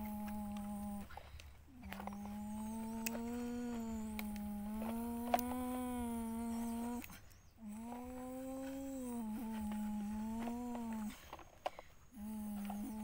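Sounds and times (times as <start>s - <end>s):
person humming engine noise: 0.0s - 13.0s.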